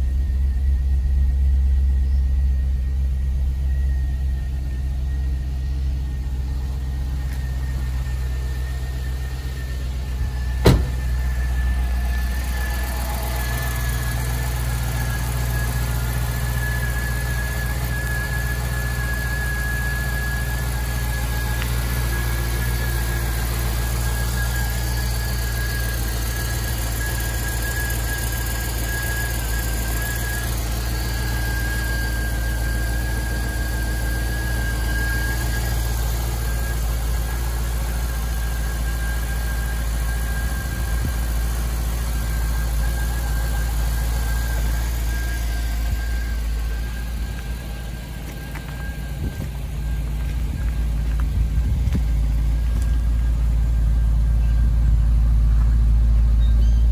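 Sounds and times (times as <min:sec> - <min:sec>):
car engine idling: 0:00.0 - 0:56.9
high-pitched whine: 0:00.0 - 0:56.9.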